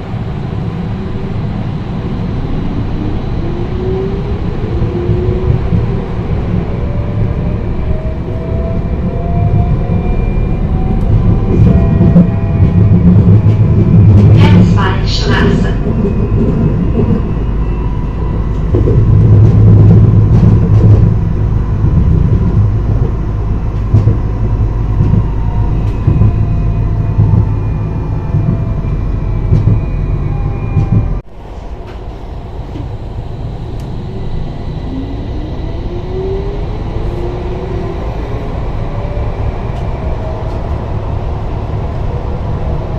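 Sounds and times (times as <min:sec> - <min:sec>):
tram wheels rumbling on track: 0:00.0 - 0:42.9
rising whine: 0:02.0 - 0:41.3.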